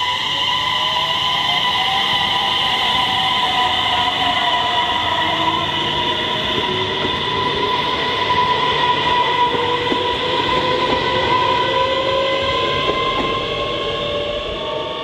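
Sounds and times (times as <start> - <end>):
electric train motor whine: 0.0 - 15.0
wheel and rail noise: 2.6 - 15.0.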